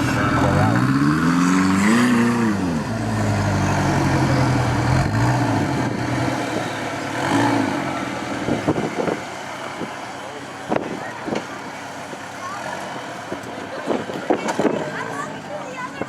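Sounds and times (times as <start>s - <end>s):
engine running with throttle blips: 0.0s - 16.0s.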